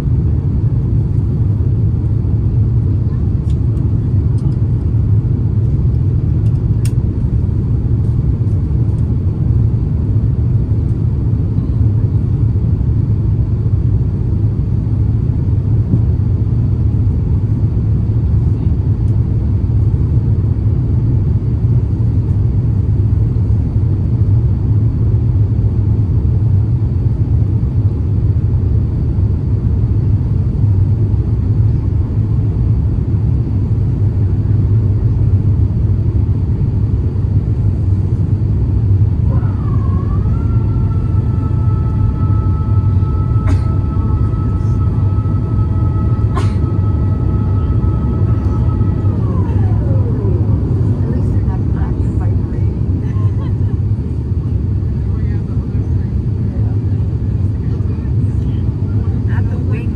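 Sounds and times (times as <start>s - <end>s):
jet cabin engine rumble: 0.0s - 59.9s.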